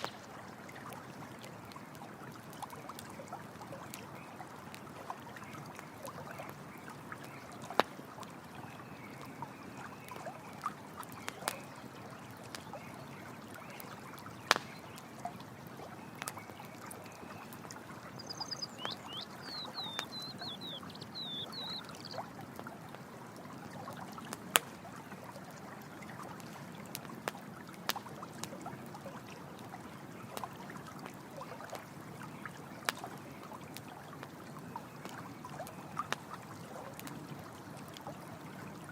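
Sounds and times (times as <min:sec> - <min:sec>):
campfire crackling: 0:00.0 - 0:38.9
running water: 0:00.0 - 0:38.9.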